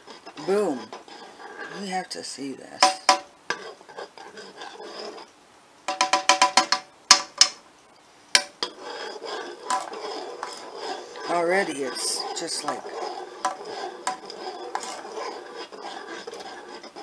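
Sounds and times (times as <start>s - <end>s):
utensil scraping saucepan: 0.0s - 5.3s, 8.4s - 17.0s.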